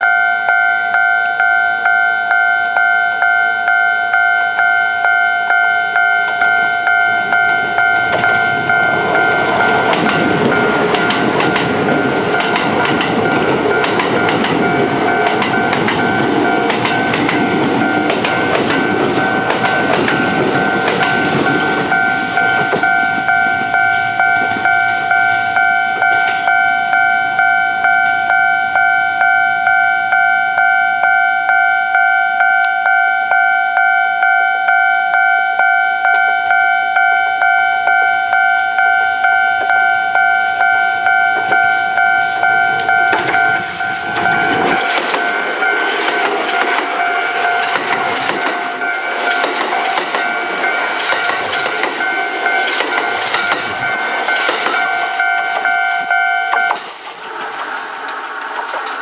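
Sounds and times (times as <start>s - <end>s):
wheels clicking over rail joints: 0.0s - 31.2s, 39.6s - 59.0s
level-crossing warning bell dinging: 0.0s - 59.0s
trains rushing past: 3.2s - 29.5s, 37.0s - 59.0s.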